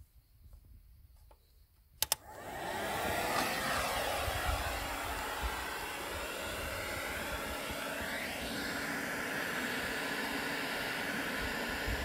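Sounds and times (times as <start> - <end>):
weed burner fan hissing: 2.2 - 12.0.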